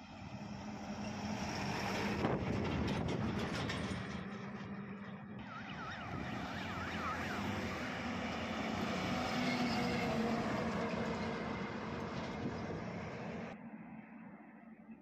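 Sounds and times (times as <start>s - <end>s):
heavy truck passing: 0.0s - 13.6s.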